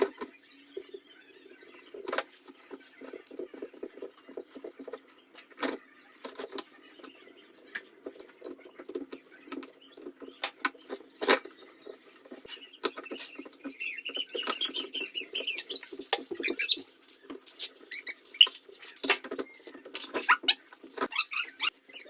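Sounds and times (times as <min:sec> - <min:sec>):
squeaky scraping: 0:00.0 - 0:22.0.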